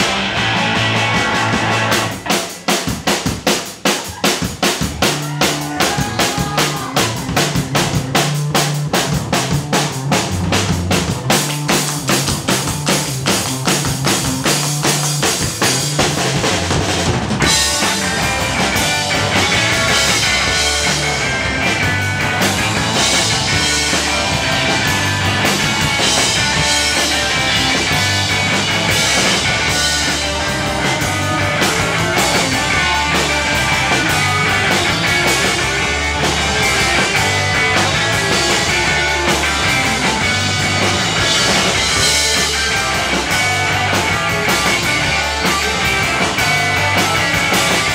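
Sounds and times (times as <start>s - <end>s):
rock band playing loudly: 0.0s - 47.9s.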